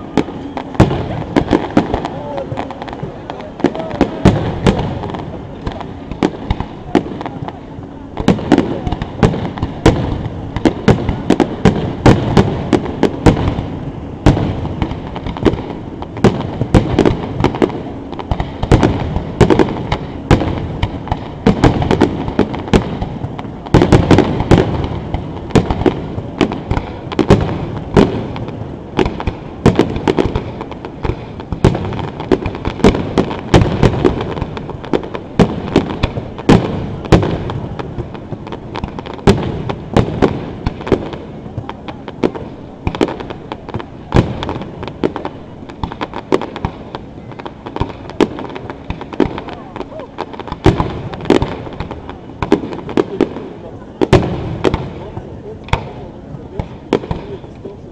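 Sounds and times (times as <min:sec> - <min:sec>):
fireworks launches and bangs: 0:00.0 - 0:57.9.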